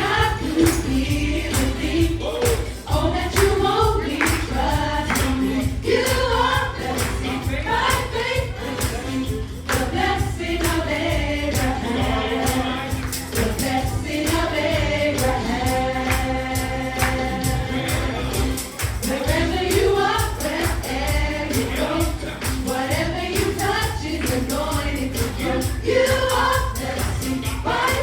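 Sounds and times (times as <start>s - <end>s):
band accompaniment: 0.0s - 28.0s
choir singing: 0.0s - 28.0s
percussion beat: 0.0s - 28.0s.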